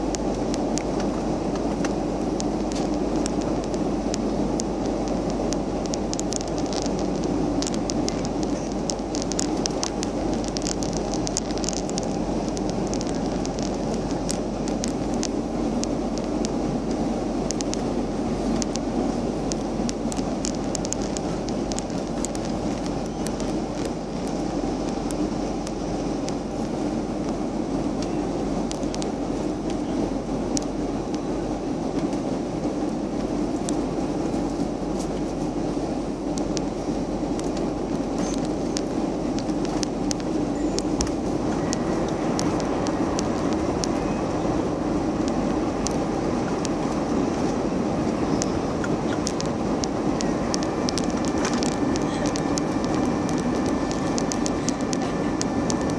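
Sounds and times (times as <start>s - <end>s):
faint ticks: 0.0s - 17.9s, 18.5s - 27.4s, 28.0s - 31.2s, 36.3s - 47.6s, 48.2s - 55.9s
airliner cabin engine rumble: 0.0s - 55.9s.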